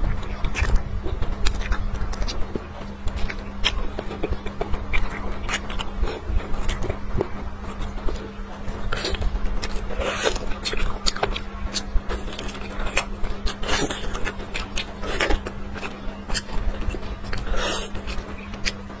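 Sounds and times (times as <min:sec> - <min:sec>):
wet chewing and lip smacking: 0:00.0 - 0:18.9
steady low hum: 0:00.0 - 0:19.0.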